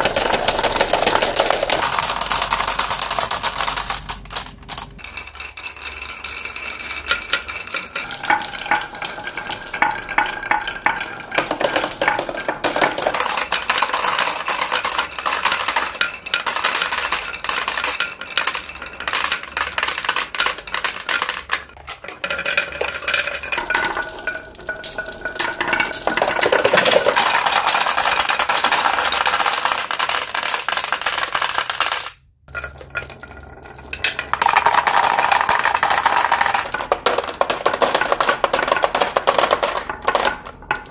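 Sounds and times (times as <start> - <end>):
marbles dropping into plastic truck: 0.0 - 40.9
marbles rolling on wooden tracks: 0.0 - 40.9.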